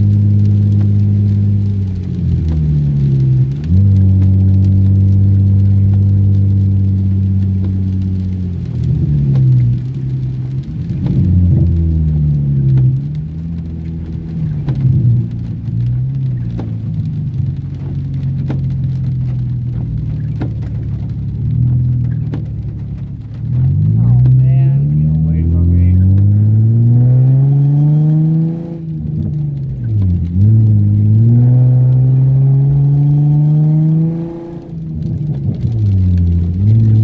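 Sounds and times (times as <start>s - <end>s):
car engine revving: 0.0s - 37.0s
rain: 0.0s - 37.0s.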